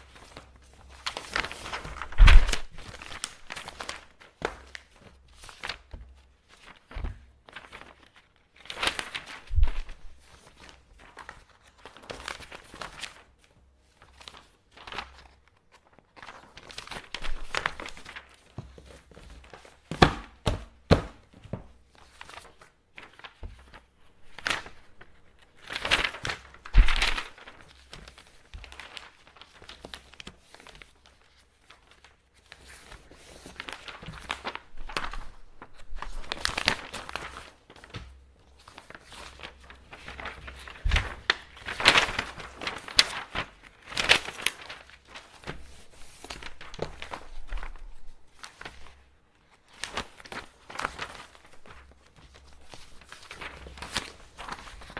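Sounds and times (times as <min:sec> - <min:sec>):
paper rustling and folding: 0:00.0 - 0:54.9.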